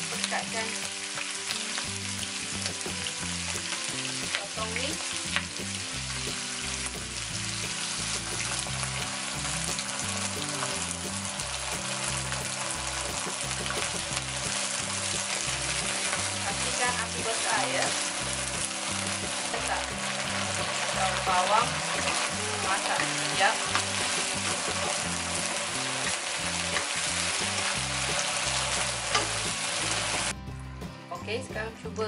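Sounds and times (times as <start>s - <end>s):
food sizzling in a pan: 0.0s - 30.3s.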